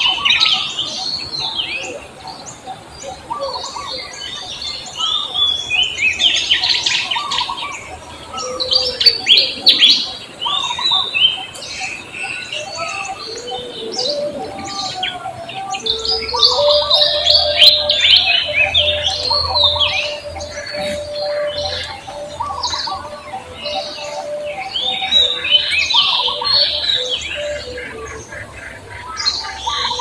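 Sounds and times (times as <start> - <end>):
birds chirping: 0.0 - 30.0
low held bird notes: 0.0 - 30.0.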